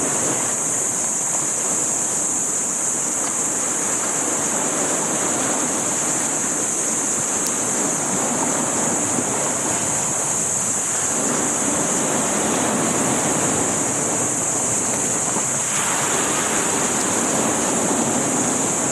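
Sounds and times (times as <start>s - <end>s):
sea waves rushing: 0.0s - 18.9s
wind: 0.0s - 18.9s.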